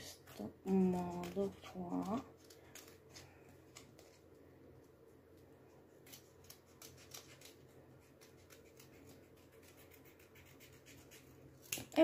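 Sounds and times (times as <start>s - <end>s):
scissors cutting paper: 0.2s - 4.2s, 6.0s - 12.0s.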